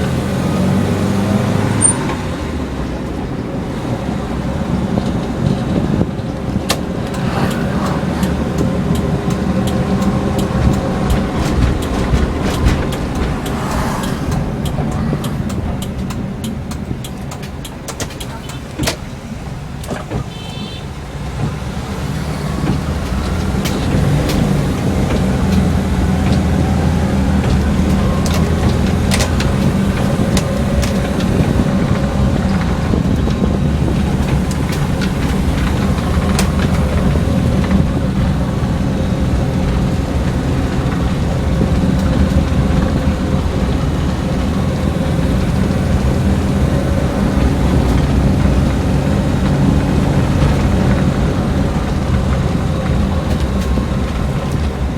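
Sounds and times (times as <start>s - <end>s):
car engine running: 0.0s - 20.4s, 21.0s - 54.9s
road noise: 0.0s - 54.9s.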